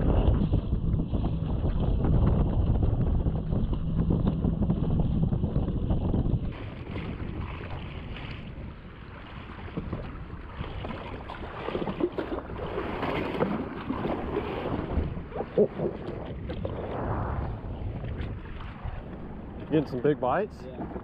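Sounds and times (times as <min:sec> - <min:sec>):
waves slapping against hull: 0:00.0 - 0:21.0
wind buffeting microphone: 0:00.0 - 0:21.0.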